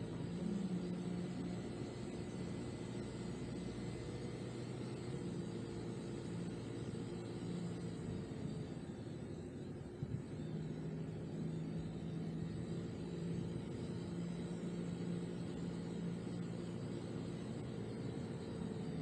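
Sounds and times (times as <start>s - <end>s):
car engine hum: 0.0s - 19.0s
road and tyre noise: 0.0s - 19.0s.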